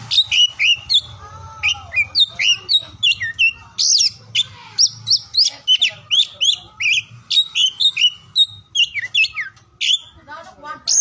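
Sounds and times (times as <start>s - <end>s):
bird singing whistles and chirps: 0.1s - 10.2s.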